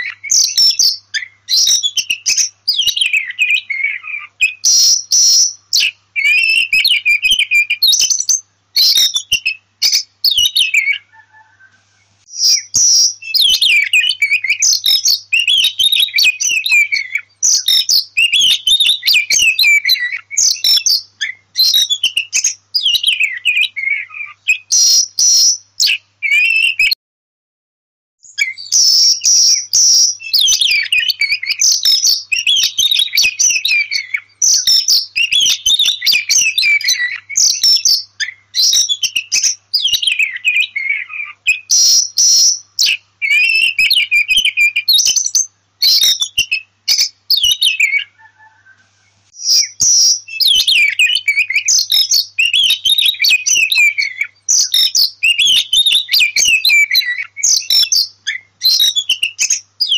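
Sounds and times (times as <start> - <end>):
bird whistled song: 0.0 - 27.0, 28.2 - 59.9.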